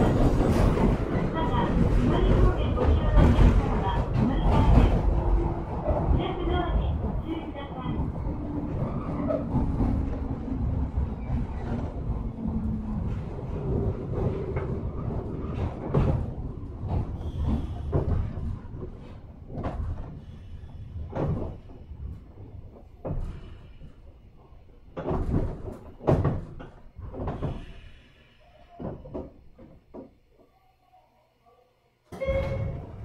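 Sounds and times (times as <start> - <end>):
train doors knocking and clunking: 0.0 - 30.3, 32.1 - 33.0.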